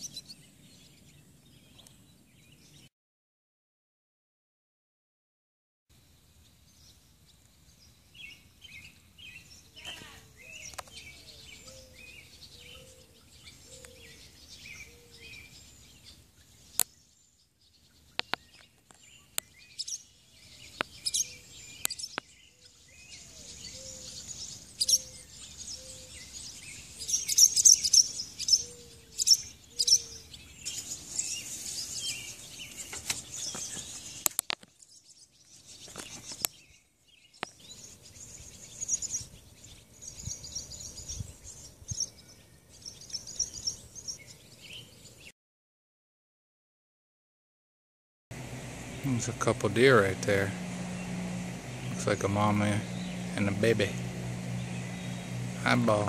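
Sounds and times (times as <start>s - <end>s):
birds singing and chirping: 0.0s - 2.9s, 6.5s - 45.3s, 48.4s - 56.0s.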